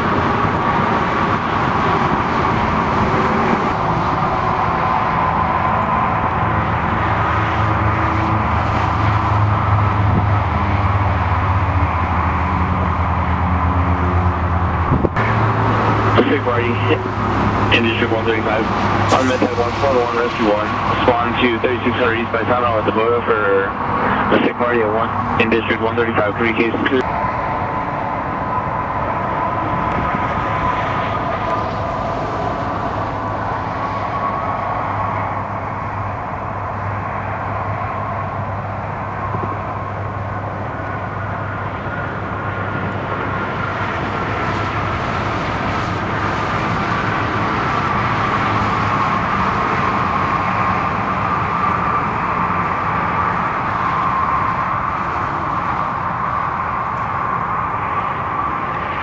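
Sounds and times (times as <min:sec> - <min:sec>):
faint drifting whine: 0:00.0 - 0:59.0
low engine hum: 0:00.0 - 0:59.0
roadside traffic rumble: 0:00.0 - 0:59.0.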